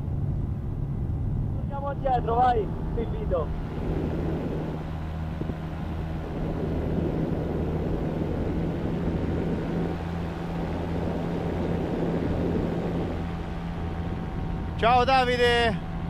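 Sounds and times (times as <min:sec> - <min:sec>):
paramotor engine and propeller drone: 0:00.0 - 0:16.0.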